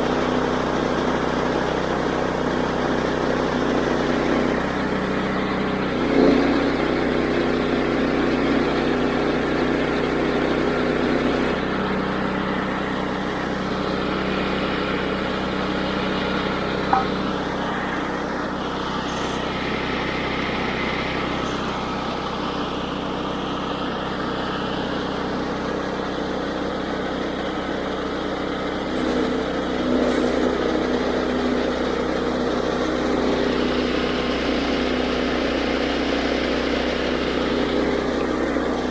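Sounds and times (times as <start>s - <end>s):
band saw cutting log: 0.0s - 21.9s, 28.8s - 38.9s
sawmill engine running: 0.0s - 38.9s.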